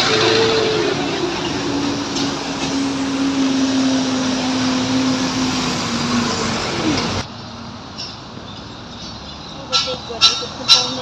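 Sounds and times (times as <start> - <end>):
road noise: 0.0 - 11.0
truck engine humming: 0.0 - 11.0.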